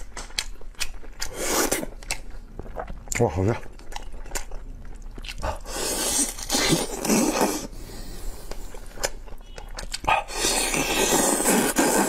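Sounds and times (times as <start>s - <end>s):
person chewing meat: 0.0s - 12.0s
wet gnawing and sucking: 0.0s - 12.0s.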